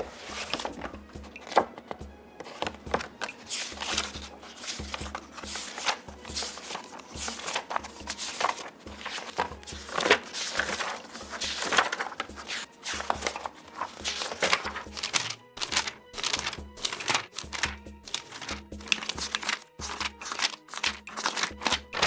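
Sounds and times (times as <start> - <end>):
paper pages turning: 0.0 - 22.0.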